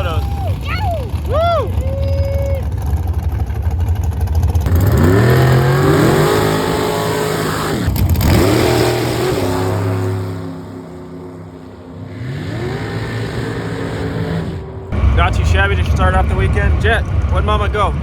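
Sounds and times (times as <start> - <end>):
dragster engine accelerating: 0.0 - 18.0.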